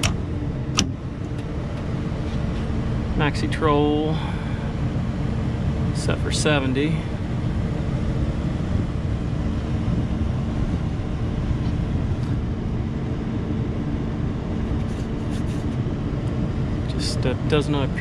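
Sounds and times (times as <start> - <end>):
air unit low rumble: 0.0 - 18.0
constant hum: 0.0 - 18.0.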